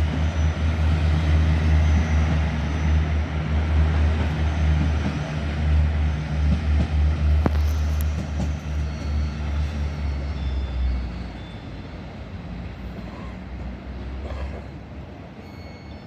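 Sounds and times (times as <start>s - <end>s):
train rumbling on tracks: 0.0s - 16.0s.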